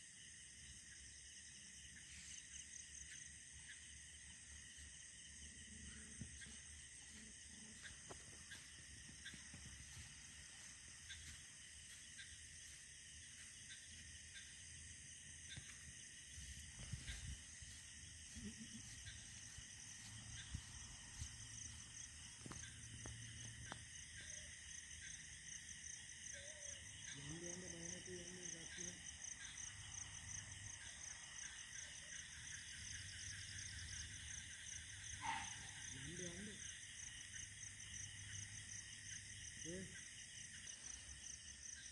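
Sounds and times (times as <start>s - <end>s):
night insects chorus: 0.0s - 41.9s.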